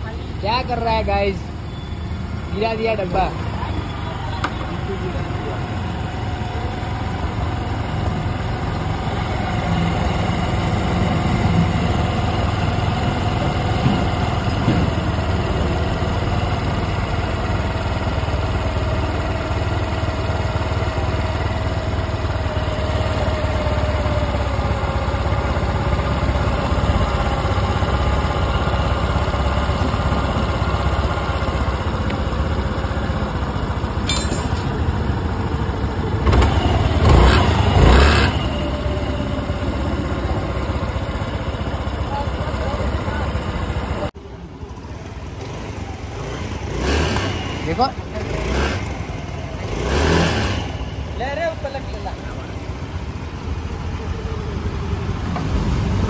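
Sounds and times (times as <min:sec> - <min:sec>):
scooter engine idling: 0:00.0 - 0:56.0.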